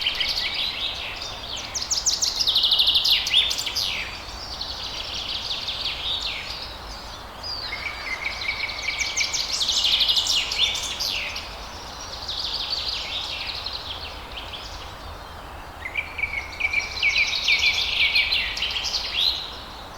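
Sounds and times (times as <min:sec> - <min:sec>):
faint steady background noise: 0:00.0 - 0:19.9
songbirds singing and chirping: 0:00.0 - 0:19.9.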